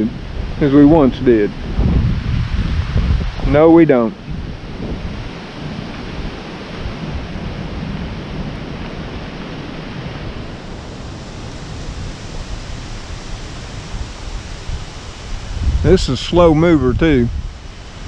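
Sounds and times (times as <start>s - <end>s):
storm wind rushing: 0.0s - 18.0s
wind buffeting microphone: 0.0s - 18.0s.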